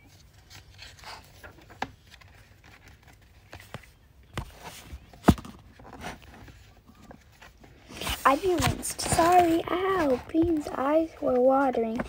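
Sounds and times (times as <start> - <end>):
book pages rustling: 0.0 - 12.0.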